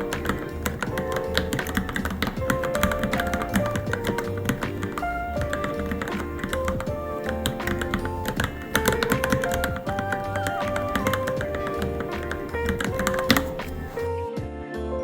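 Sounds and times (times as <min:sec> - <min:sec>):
mechanical keyboard typing: 0:00.0 - 0:14.0
background music with low beat: 0:00.0 - 0:14.8.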